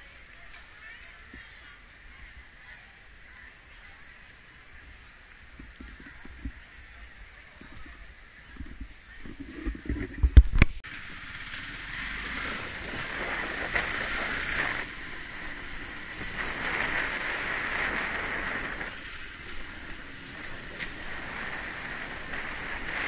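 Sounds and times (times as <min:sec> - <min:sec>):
steady rushing noise: 0:01.6 - 0:23.0.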